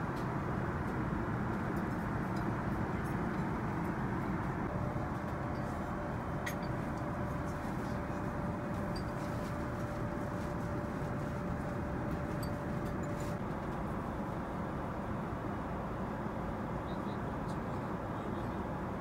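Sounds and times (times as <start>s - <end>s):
aircraft engines and airflow rush: 0.0s - 19.0s.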